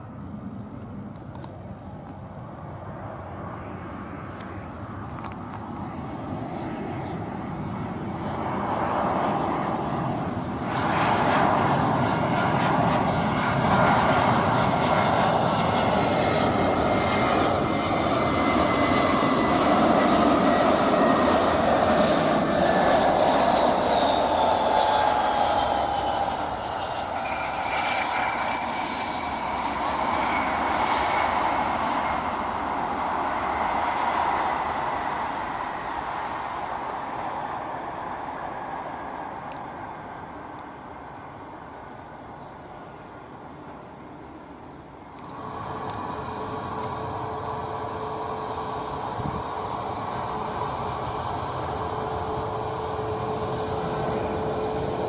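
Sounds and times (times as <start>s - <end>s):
jet engines roaring past: 0.0s - 55.0s.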